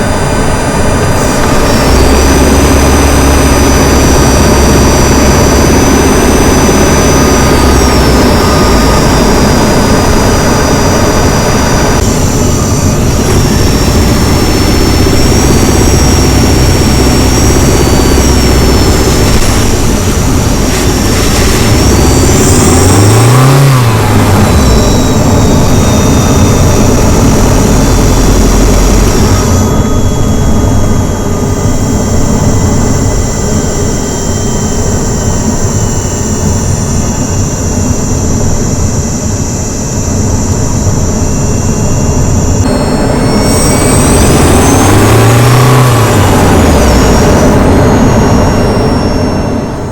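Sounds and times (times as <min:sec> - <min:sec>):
car engine running: 0:00.0 - 0:49.9
high electric whine: 0:00.0 - 0:49.9.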